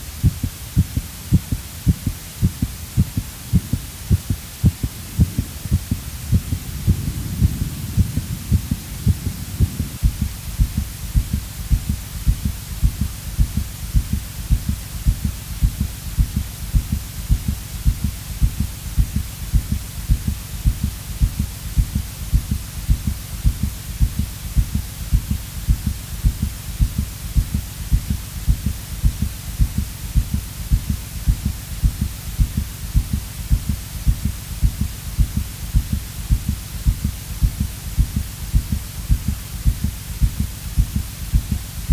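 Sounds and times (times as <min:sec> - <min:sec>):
faint hum: 0:00.0 - 0:41.9
low thumping pulse: 0:00.2 - 0:41.9
dense low rumble: 0:02.4 - 0:41.9.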